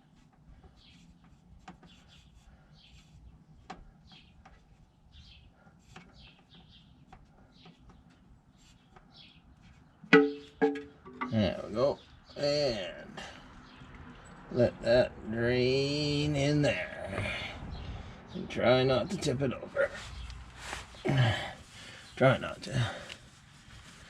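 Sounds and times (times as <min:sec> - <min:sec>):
birds chirping: 0:00.4 - 0:23.3.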